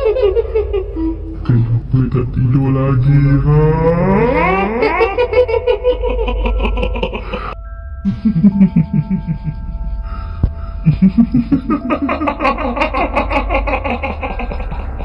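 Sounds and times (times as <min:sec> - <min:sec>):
ghostly chuckling laughter: 0:00.0 - 0:15.0
low hum: 0:00.0 - 0:15.0
sustained spooky tones: 0:00.0 - 0:15.0.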